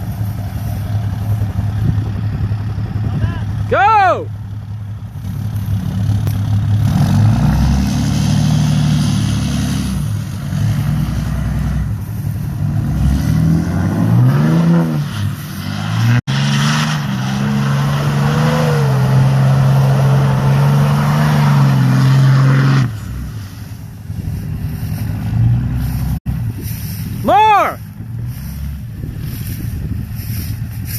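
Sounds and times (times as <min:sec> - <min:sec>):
diesel truck engine revving: 0:00.0 - 0:27.2, 0:27.8 - 0:30.9.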